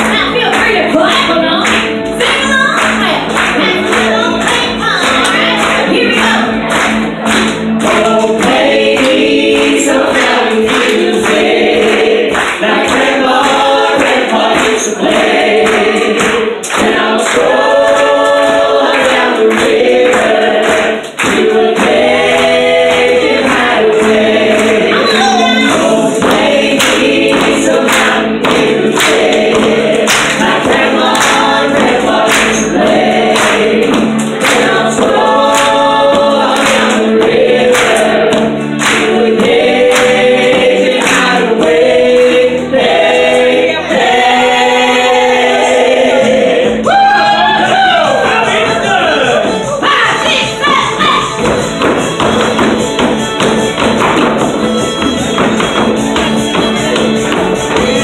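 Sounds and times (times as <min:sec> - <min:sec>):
group singing in chorus: 0:00.0 - 0:54.7
claps or percussion beat: 0:00.0 - 0:58.0
honky-tonk song: 0:00.0 - 0:58.0.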